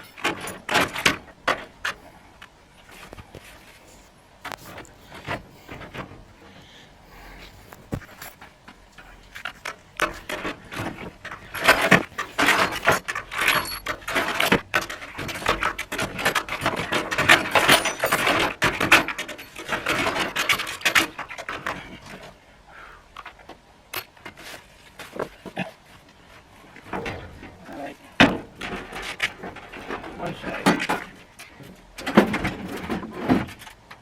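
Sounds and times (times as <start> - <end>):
hand tools clattering: 0.0 - 22.4, 26.6 - 33.8.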